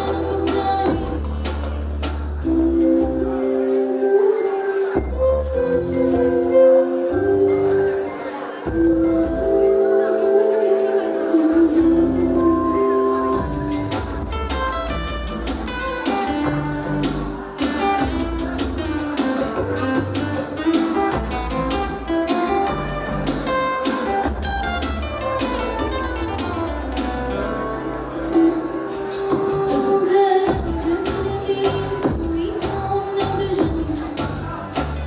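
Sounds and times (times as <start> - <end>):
dance song with beat and bass: 0.0 - 35.0.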